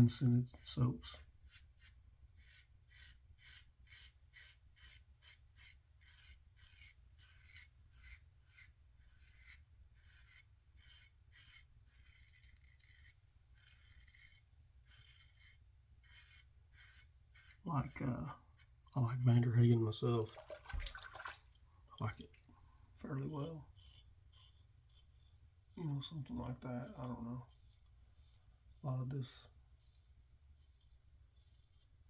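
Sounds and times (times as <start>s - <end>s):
razor scraping stubble: 0.0s - 32.0s.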